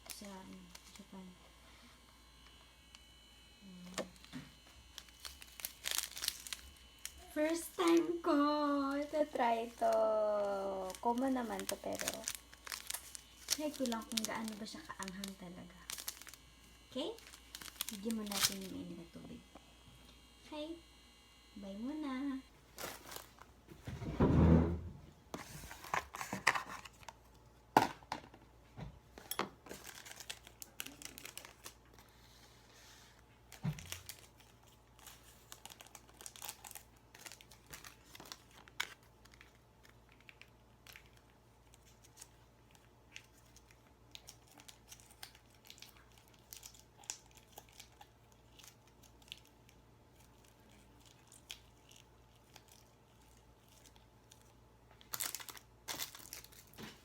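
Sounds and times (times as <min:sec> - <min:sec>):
plastic packaging crinkling and tearing: 0:00.0 - 0:01.4, 0:02.3 - 0:19.4, 0:22.6 - 0:23.6, 0:25.4 - 0:27.4, 0:29.2 - 0:57.0.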